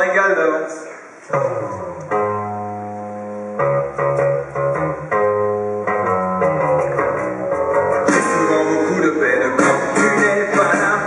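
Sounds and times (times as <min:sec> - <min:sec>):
guitar ringing chords: 0:01.4 - 0:11.0.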